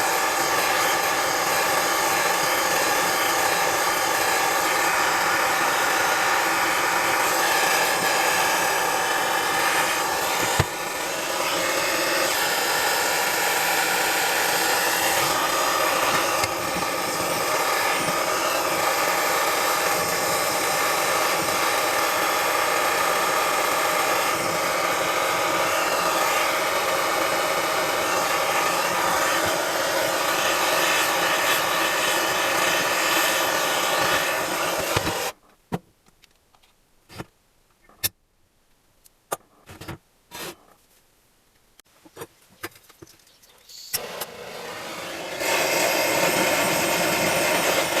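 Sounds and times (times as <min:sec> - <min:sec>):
power tool grinding: 0:00.0 - 0:35.4, 0:44.0 - 0:48.0.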